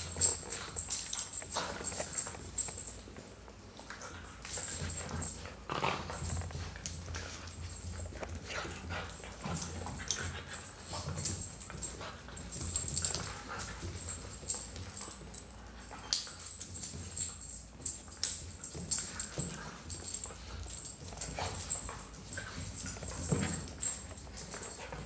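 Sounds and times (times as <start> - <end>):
dog claws scuffling on tile: 0.0 - 25.0
dogs play growling: 0.0 - 25.0.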